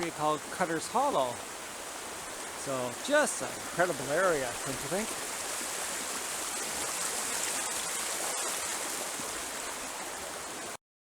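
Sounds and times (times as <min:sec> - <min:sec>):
river rushing: 0:00.0 - 0:10.8.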